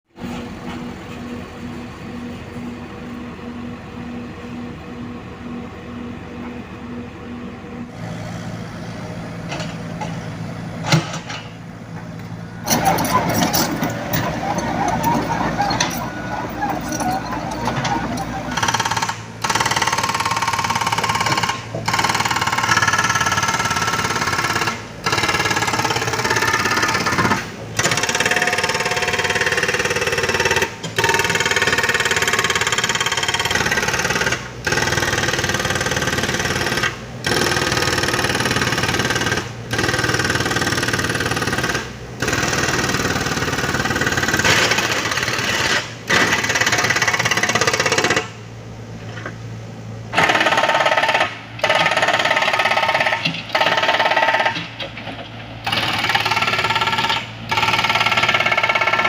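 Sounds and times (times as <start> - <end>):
heavy diesel machinery running: 0.1 - 59.0.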